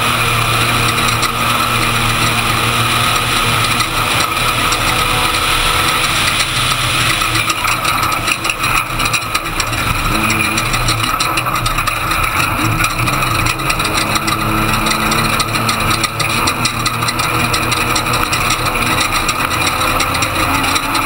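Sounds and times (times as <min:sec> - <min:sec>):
steady wash of noise: 0:00.0 - 0:20.5
rattles: 0:00.0 - 0:21.0
truck engine running: 0:00.0 - 0:21.0.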